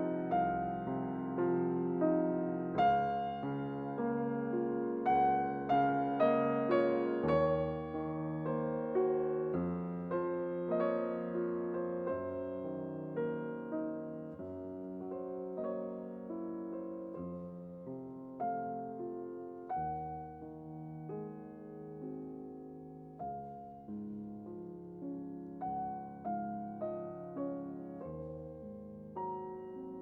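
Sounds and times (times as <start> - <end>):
slow piano music: 0.0 - 30.0.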